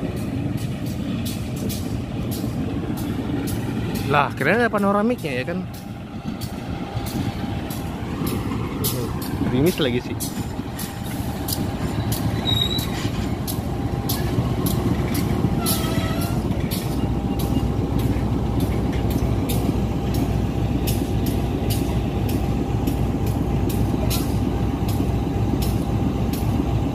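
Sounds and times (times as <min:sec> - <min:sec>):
locomotive engine rumbling: 0:00.0 - 0:26.9.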